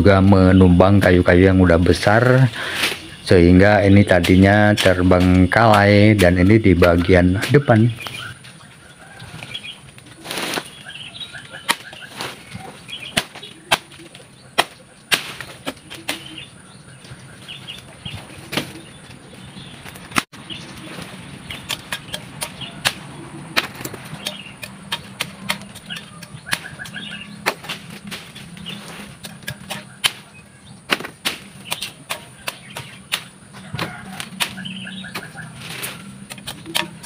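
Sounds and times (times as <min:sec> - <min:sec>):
faint birds chirping: 0:00.0 - 0:37.0
leaves rustling: 0:00.5 - 0:37.0
branches snapping: 0:02.3 - 0:03.4, 0:04.0 - 0:37.0.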